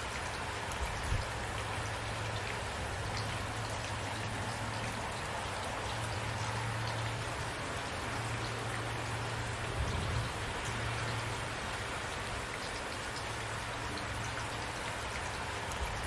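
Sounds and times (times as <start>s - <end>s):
steady rain falling: 0.0s - 16.0s
water drips: 0.0s - 16.0s.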